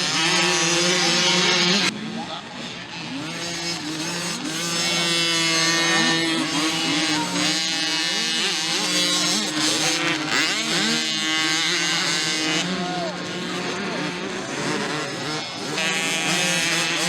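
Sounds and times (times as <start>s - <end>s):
mini motocross bikes revving: 0.0s - 17.0s.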